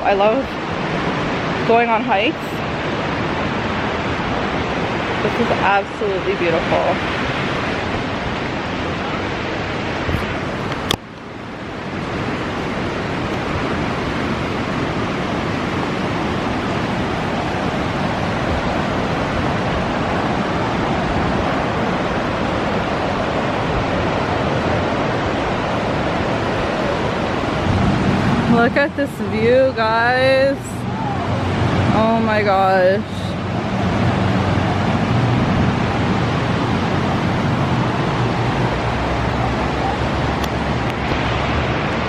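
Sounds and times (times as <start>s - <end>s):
white-water rapids rushing: 0.0s - 42.0s.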